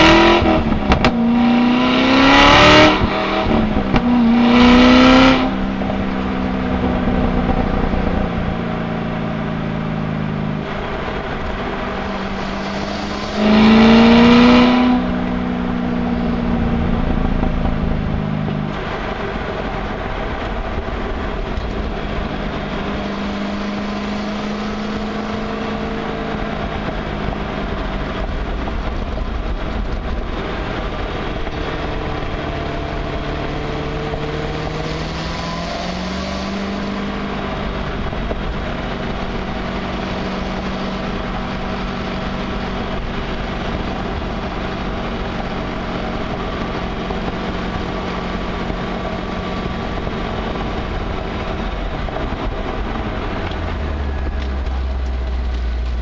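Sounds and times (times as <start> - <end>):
car exhaust drone: 0.0 - 56.0.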